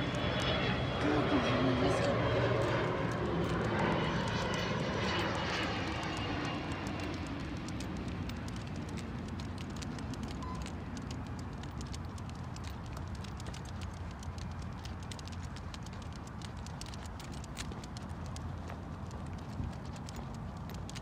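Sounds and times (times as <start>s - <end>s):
faint crackling ticks: 0.0s - 1.0s, 2.0s - 21.0s
engine drone: 0.0s - 21.0s.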